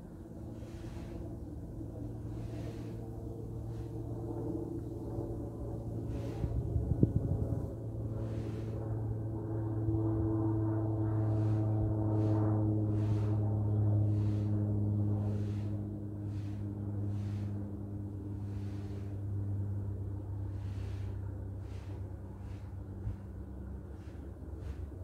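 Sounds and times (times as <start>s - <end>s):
low mechanical drone: 0.0s - 25.0s.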